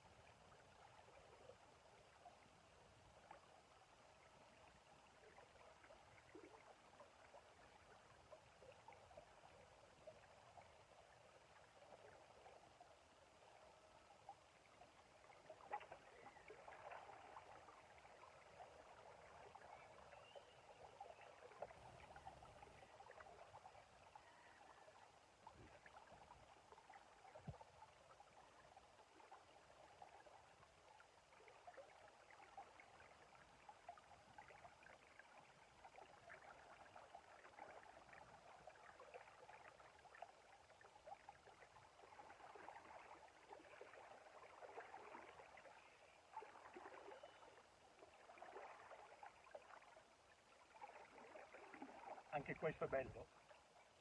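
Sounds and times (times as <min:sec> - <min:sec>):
river water flowing: 0:00.0 - 0:54.0
small ticks and splashes: 0:00.0 - 0:54.0.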